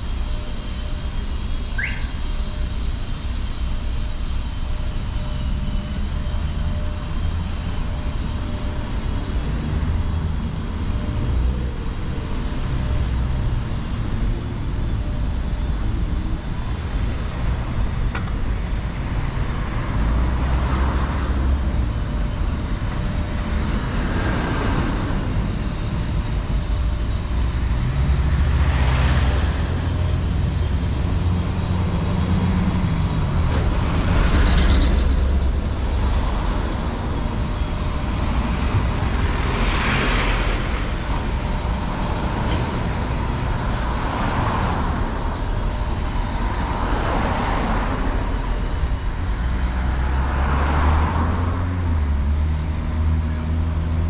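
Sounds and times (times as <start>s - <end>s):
bus passing close: 0.0s - 54.0s
traffic rumble: 0.0s - 54.0s
vehicles passing: 3.6s - 54.0s.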